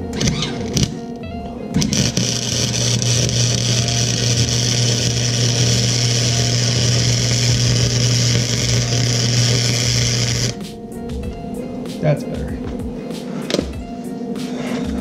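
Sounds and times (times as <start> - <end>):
welder arc humming and hissing: 0.0 - 15.0.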